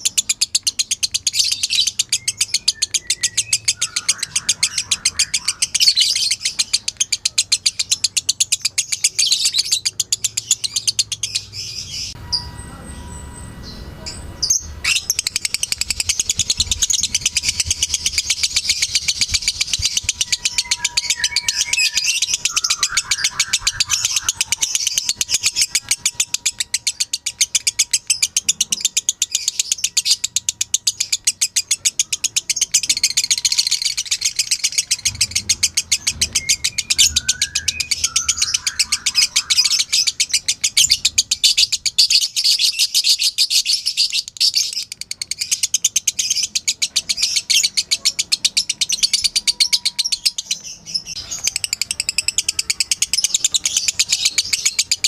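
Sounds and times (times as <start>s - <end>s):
lovebird chattering: 0.0s - 12.2s, 13.7s - 55.0s.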